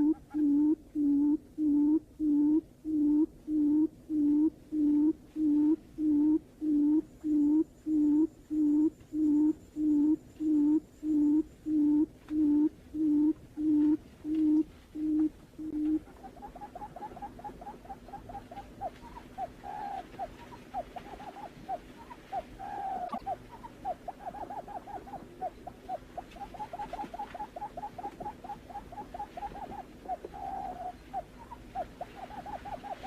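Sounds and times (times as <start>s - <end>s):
buttonquail low hooting call: 0.0s - 33.0s.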